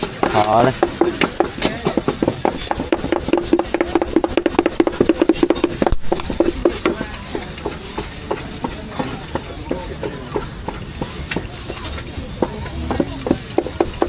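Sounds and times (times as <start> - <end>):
cleaver chopping meat on board: 0.0 - 14.0.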